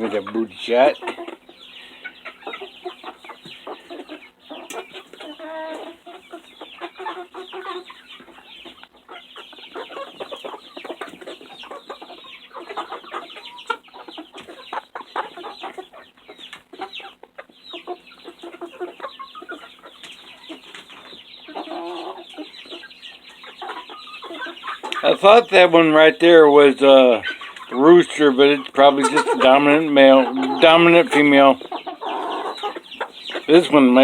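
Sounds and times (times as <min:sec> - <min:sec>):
young chickens clucking: 0:00.0 - 0:34.0.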